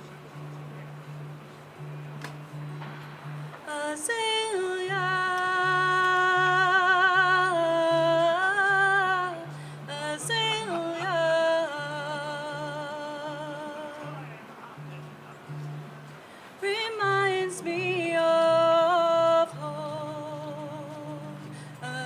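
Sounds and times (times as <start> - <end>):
person singing long notes: 0.4 - 14.4, 16.6 - 22.0.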